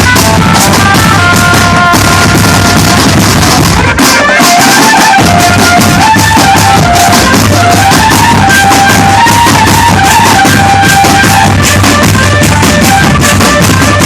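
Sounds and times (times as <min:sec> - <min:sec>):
drum band playing: 0:00.0 - 0:14.0.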